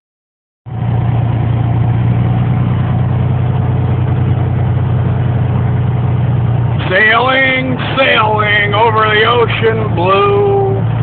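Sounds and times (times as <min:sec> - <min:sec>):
engine humming: 0:00.7 - 0:11.0.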